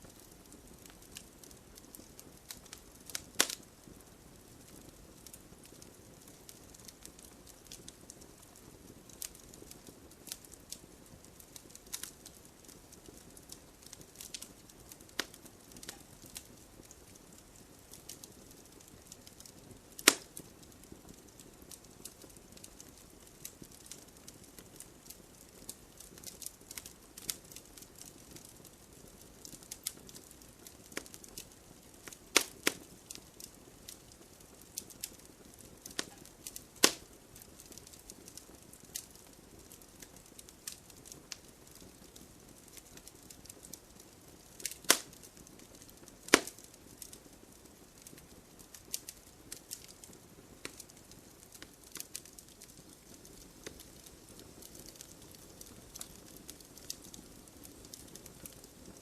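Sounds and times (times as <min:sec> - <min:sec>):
campfire wood crackling: 0:00.0 - 0:59.0.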